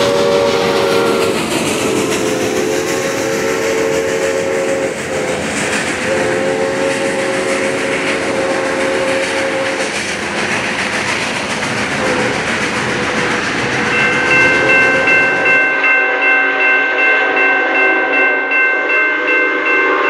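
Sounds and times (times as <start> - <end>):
train horn blasts: 0.0 - 9.8, 12.0 - 12.4, 14.0 - 20.0
train rumble and rail clatter: 0.0 - 20.0.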